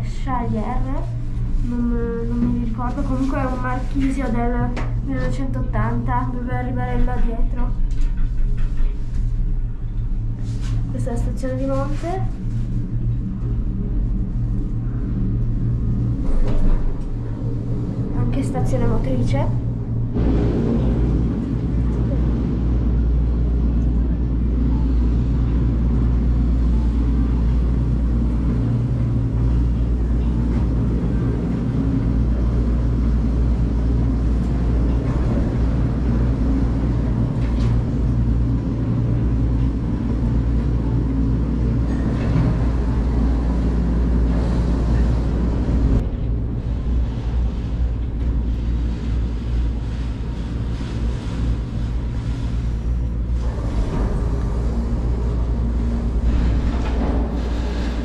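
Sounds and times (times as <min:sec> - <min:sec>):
gondola drive machinery hum: 0:00.0 - 0:58.0.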